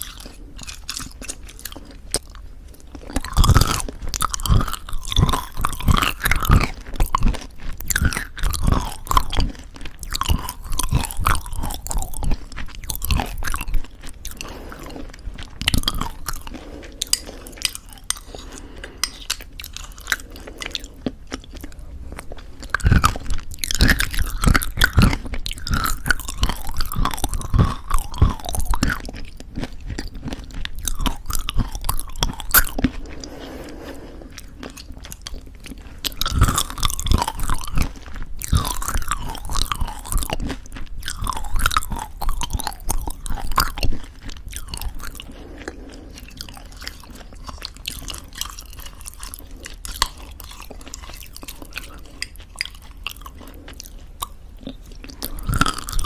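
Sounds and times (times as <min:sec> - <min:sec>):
chewing crunchy granola: 0:00.0 - 0:56.0.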